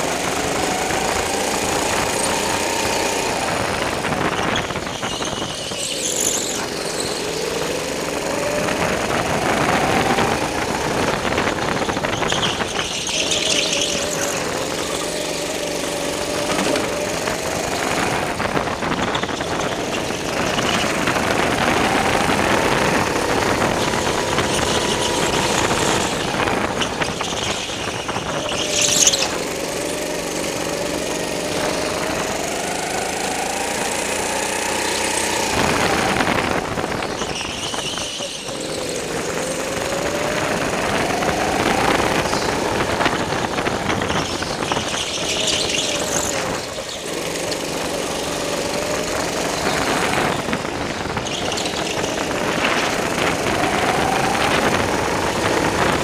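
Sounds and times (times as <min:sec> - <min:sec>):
go-kart engine running: 0:00.0 - 0:56.0
tyres squealing: 0:00.0 - 0:56.0.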